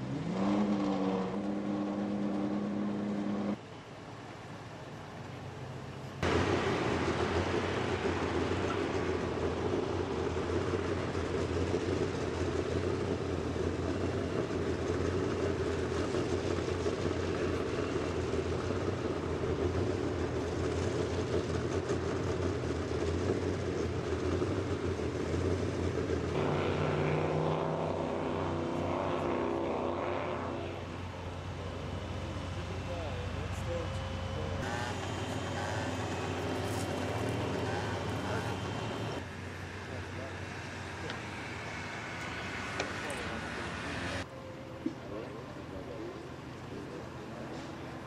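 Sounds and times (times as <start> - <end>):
low engine drone: 0.0 - 3.9, 5.9 - 48.0.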